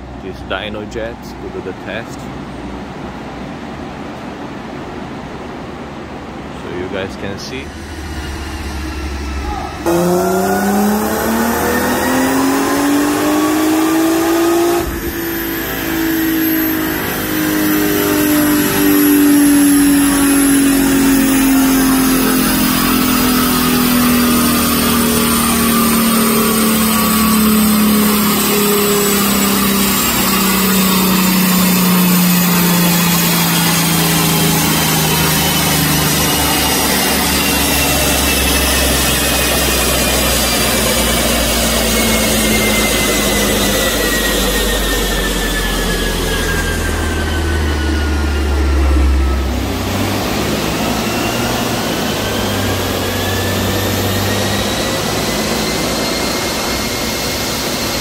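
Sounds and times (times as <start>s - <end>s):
car engine at full throttle: 0.0s - 58.0s
dyno rollers winding down: 0.0s - 58.0s.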